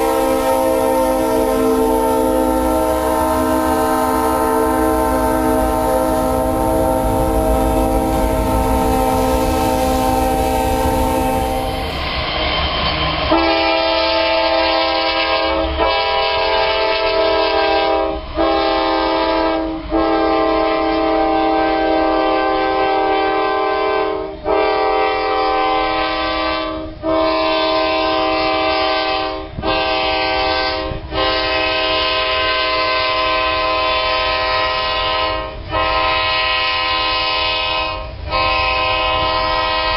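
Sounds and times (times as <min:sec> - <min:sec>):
locomotive air horn: 0:00.0 - 0:12.2, 0:13.3 - 0:39.9.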